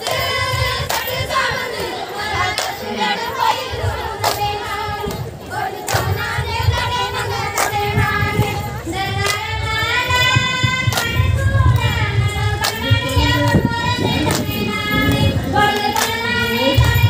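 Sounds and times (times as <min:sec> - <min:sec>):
hand claps: 0:00.0 - 0:01.9, 0:02.5 - 0:02.9, 0:04.2 - 0:05.2, 0:05.8 - 0:08.6, 0:09.2 - 0:17.0
women singing folk song: 0:00.0 - 0:17.0.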